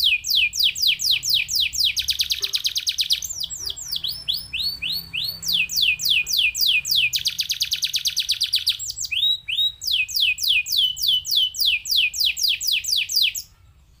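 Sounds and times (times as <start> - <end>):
canary singing: 0.0 - 14.0.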